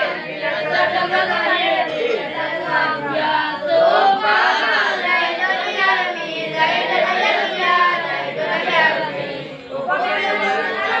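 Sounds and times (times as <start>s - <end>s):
children chanting verses: 0.0s - 11.0s.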